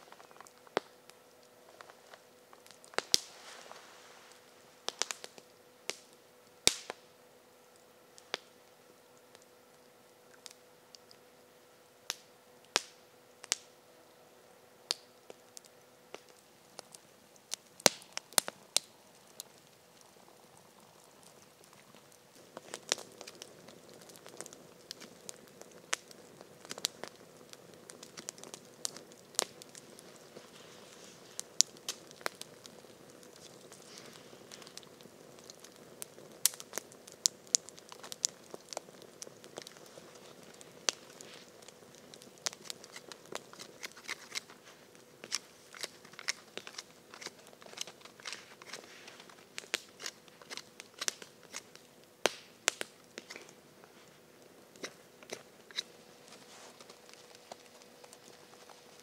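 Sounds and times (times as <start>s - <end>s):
campfire crackling and popping: 0.0s - 59.0s
low hiss of burning fire: 0.0s - 59.0s.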